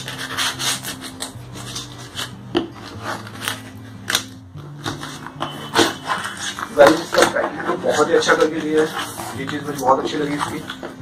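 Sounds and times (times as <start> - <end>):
knife cutting packing tape: 0.0 - 9.1.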